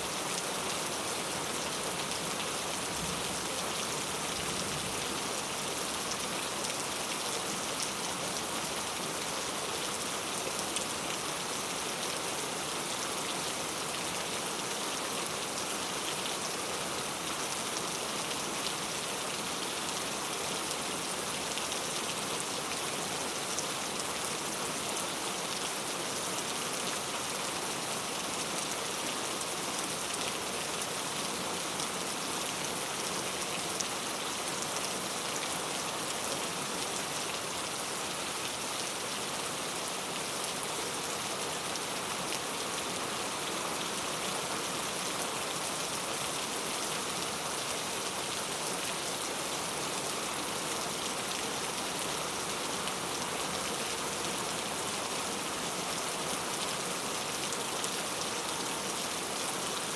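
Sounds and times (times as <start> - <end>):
heavy rain on hard street: 0.0 - 59.9.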